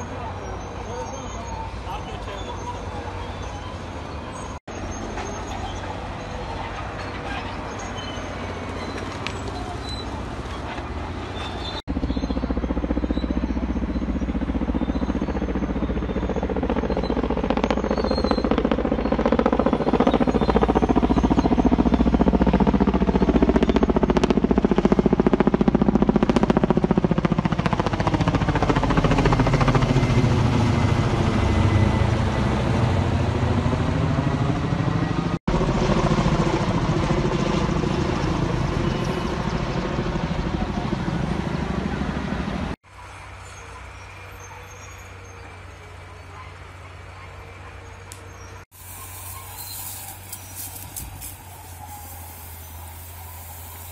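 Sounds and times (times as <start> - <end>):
aircraft engine drone passing overhead: 0.0 - 53.9.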